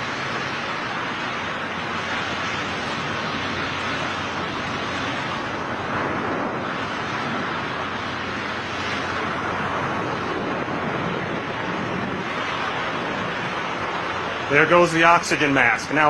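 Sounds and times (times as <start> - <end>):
air rushing over microphone: 0.0 - 16.0.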